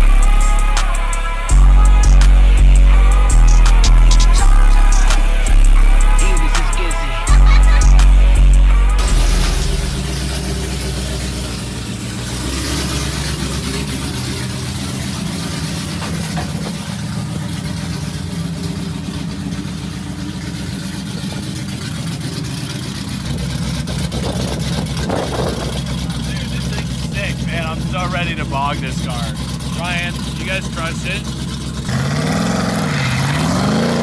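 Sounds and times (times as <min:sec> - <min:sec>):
car engine running at low revs: 0:00.0 - 0:34.0.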